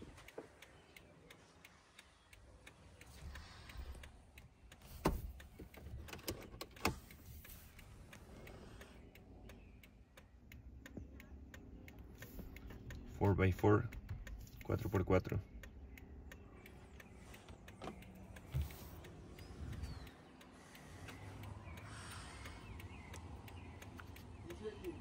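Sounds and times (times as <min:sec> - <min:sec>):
steady flasher relay ticking: 0:00.0 - 0:25.0.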